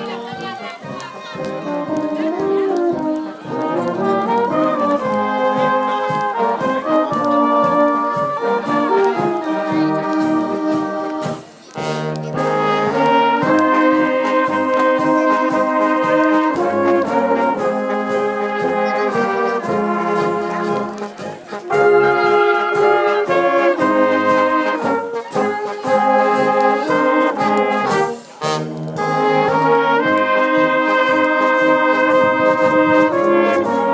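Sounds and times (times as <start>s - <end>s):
brass instruments playing a tune: 0.0s - 33.9s.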